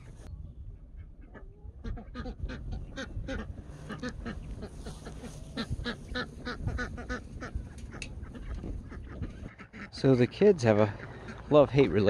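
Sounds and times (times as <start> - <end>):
low wind noise: 0.0 - 12.0
ducks quacking: 1.0 - 12.0.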